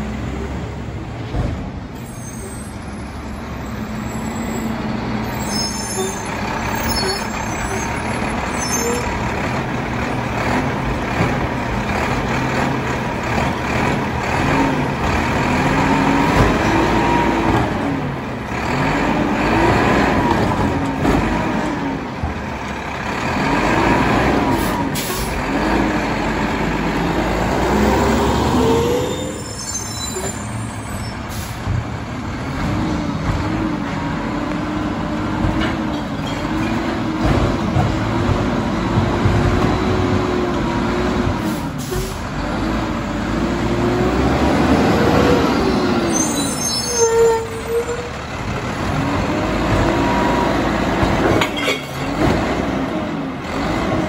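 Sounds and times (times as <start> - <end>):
garbage truck engine revving: 6.3 - 29.1, 31.6 - 46.7, 48.1 - 54.0.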